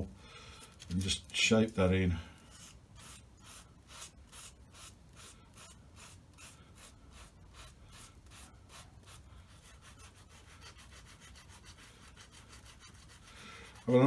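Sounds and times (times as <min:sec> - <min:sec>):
abrasive sanding strokes on foam: 0:02.5 - 0:14.0.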